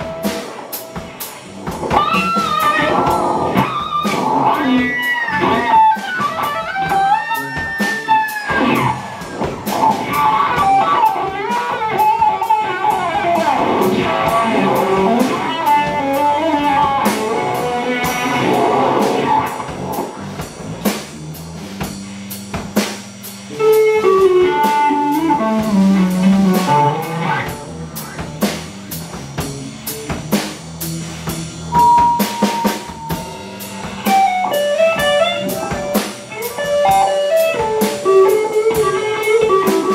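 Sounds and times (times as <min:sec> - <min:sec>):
drum kit: 0:00.0 - 0:39.9
fuzz electric guitar lead: 0:00.0 - 0:39.9.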